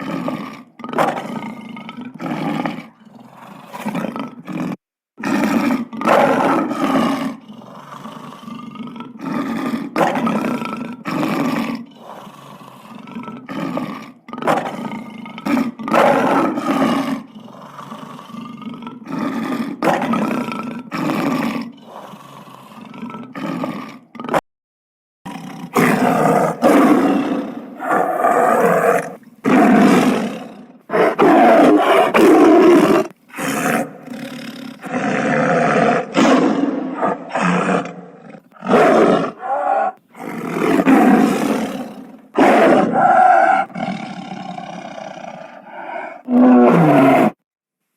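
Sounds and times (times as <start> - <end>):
big cat roaring: 0.0 - 24.4, 25.3 - 47.4.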